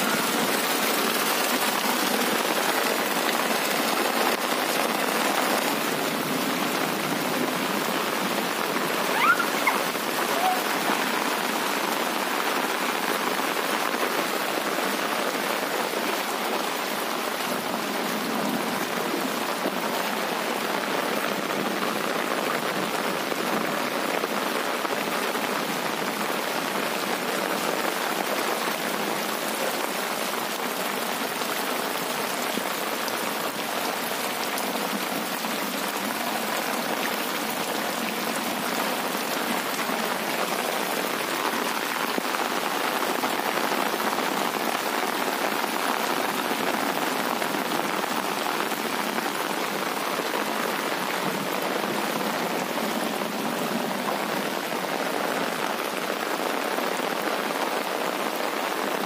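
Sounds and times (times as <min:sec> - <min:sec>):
heavy rain on road: 0:00.0 - 0:59.0.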